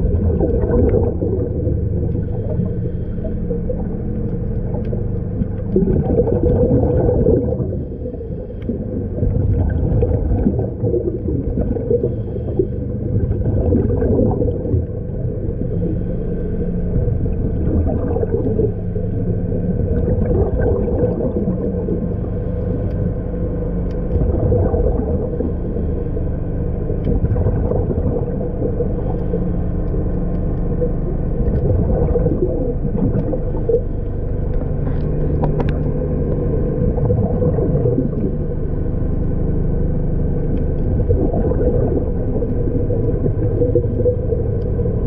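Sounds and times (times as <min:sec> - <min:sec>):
constant hum: 0:00.0 - 0:45.0
underwater low rumble: 0:00.0 - 0:45.0
water gurgling: 0:00.0 - 0:45.0.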